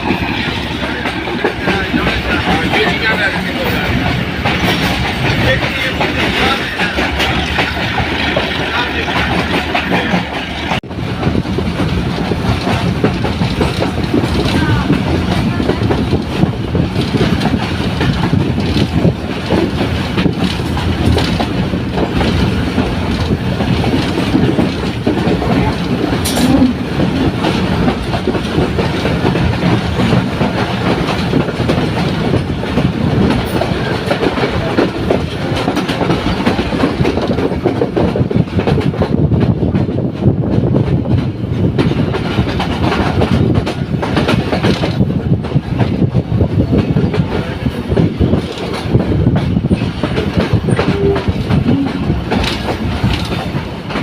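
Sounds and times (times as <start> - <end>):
train wheels rumbling and clattering: 0.0 - 54.0.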